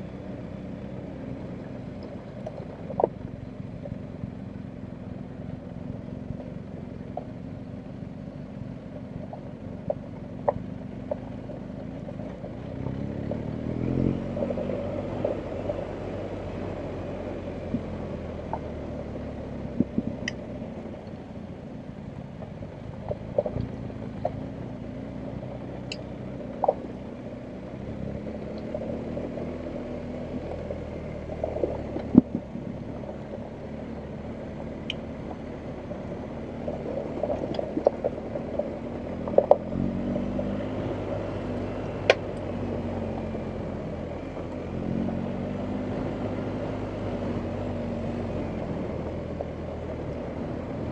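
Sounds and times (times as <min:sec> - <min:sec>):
motorcycle engine at low revs: 0:00.0 - 0:50.9.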